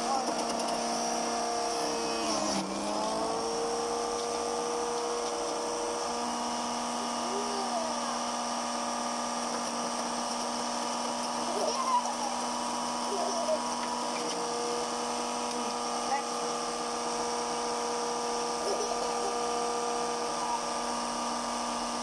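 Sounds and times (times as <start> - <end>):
electric juicer motor whine: 0.0 - 22.0.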